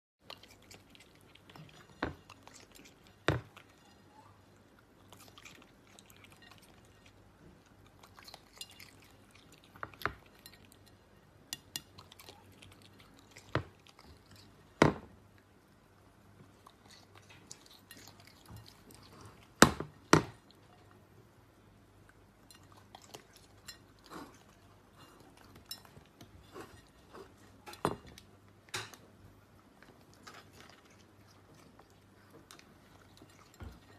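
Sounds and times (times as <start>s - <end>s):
soft chewing: 0.2s - 33.9s
claws and seeds clinking on plate: 0.3s - 4.4s, 5.1s - 15.1s, 16.6s - 20.9s, 22.4s - 29.1s, 29.9s - 33.9s.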